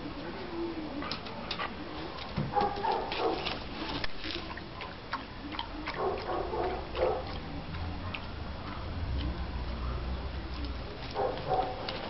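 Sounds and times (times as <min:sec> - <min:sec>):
dog eating from steel bowl: 0:01.0 - 0:12.0.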